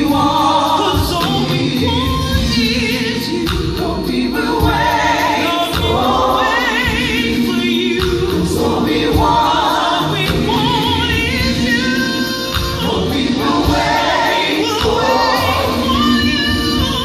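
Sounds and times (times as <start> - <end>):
gospel choir singing: 0.0 - 17.0
lead singer with wide vibrato: 0.0 - 17.0
live band playing: 0.0 - 17.0.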